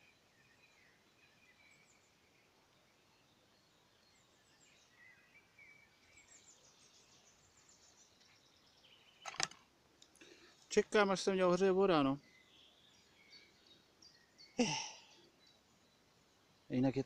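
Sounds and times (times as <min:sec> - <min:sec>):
faint distant bird chirps: 0:00.0 - 0:17.0.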